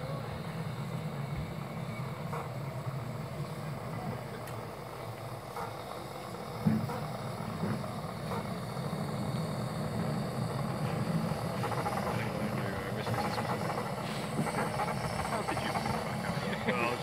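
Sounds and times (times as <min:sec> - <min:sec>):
railway turntable rumbling: 0:00.0 - 0:17.0.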